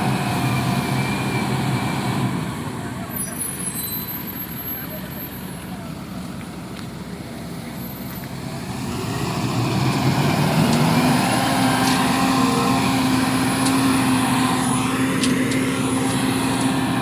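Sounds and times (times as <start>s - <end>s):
diesel engine revving: 0.0s - 6.7s, 7.3s - 17.0s.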